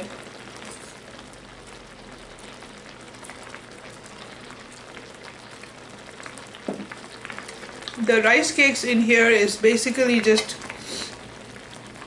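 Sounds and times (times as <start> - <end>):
stew bubbling at a simmer: 0.0 - 12.0.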